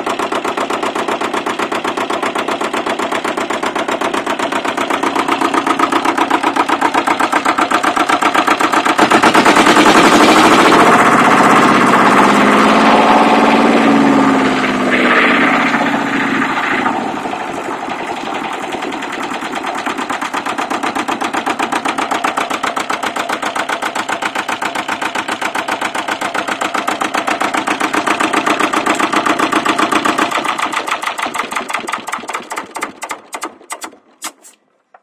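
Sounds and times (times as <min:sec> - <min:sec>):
diesel engine running: 0:00.0 - 0:34.2.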